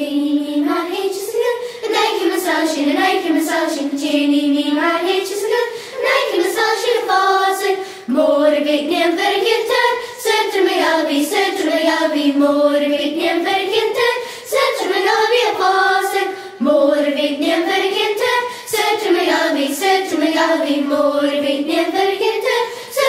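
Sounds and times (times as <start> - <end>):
young voices singing in unison: 0.0 - 23.0.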